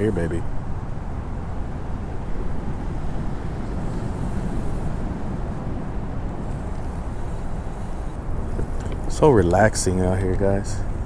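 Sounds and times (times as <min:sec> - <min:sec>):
low rumbling outdoor noise: 0:00.0 - 0:11.0.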